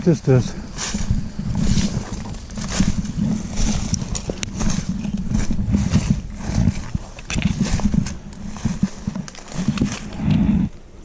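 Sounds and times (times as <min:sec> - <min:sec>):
leaves and branches swishing: 0:00.0 - 0:10.6
footsteps through brush: 0:00.0 - 0:10.9.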